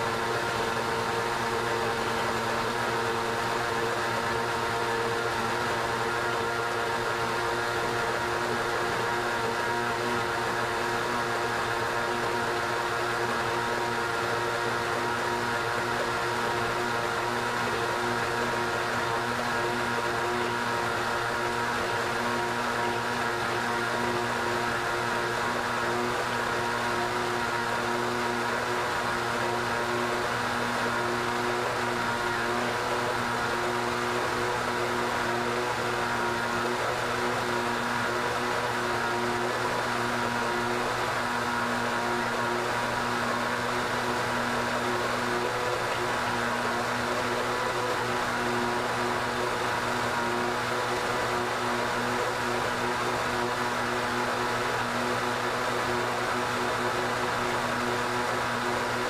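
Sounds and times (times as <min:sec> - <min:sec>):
blender motor whirring: 0:00.0 - 0:59.0.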